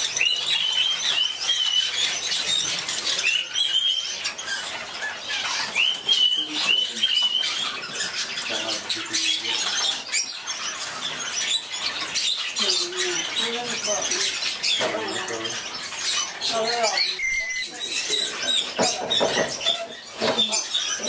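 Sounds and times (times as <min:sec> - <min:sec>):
many birds chirping: 0:00.0 - 0:21.0
parakeets squawking: 0:00.0 - 0:21.0.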